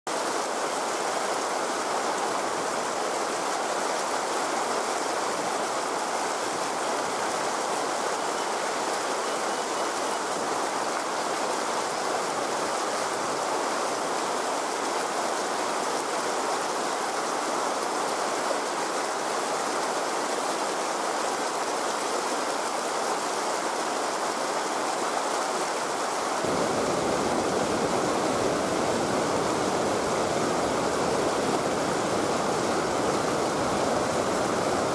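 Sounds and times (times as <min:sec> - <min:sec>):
flowing river water: 0:00.1 - 0:34.9.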